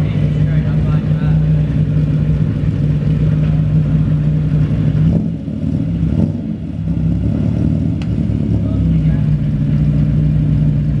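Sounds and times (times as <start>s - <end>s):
sports car engine idling: 0.0s - 11.0s.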